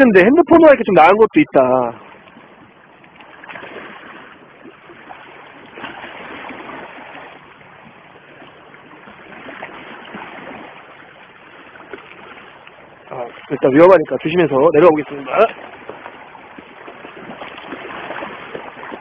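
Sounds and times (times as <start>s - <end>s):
sea water washing against rocks: 0.0s - 19.0s.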